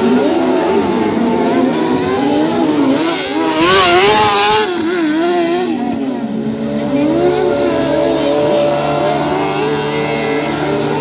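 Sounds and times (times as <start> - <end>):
buggy engines revving: 0.0 - 11.0.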